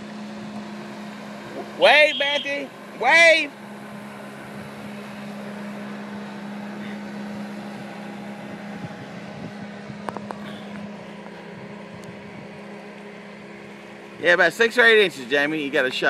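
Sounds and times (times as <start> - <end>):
motorboat engine drone: 0.0 - 16.0.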